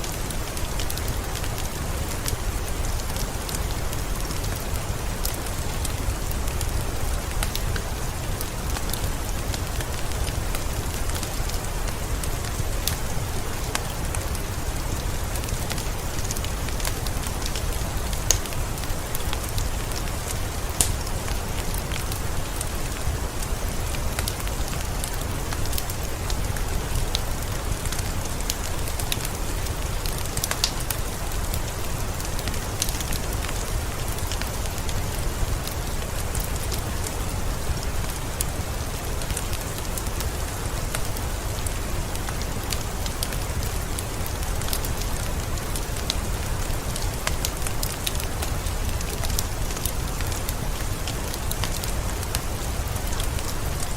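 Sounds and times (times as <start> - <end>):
fireplace fire crackling: 0.0 - 53.9
steady rain: 0.0 - 53.9.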